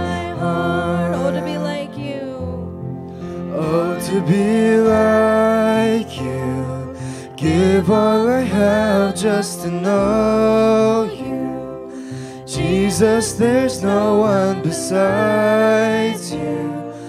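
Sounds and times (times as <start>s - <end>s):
keyboard and electric guitars: 0.0s - 17.0s.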